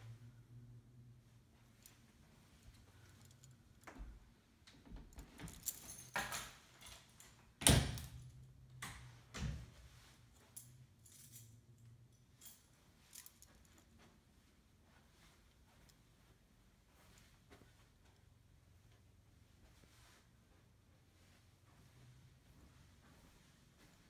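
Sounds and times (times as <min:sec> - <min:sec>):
faint low steady hum: 0:00.0 - 0:24.0.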